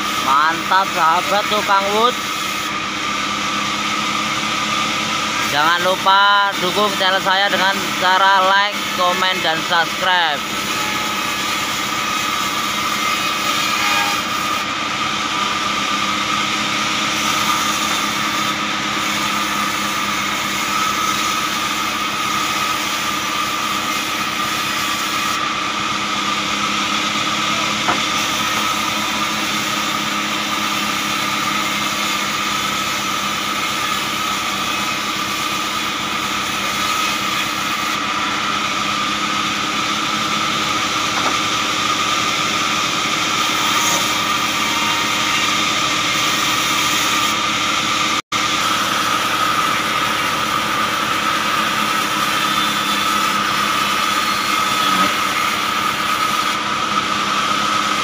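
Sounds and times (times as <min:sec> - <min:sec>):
band saw running with high whine: 0:00.0 - 0:58.0.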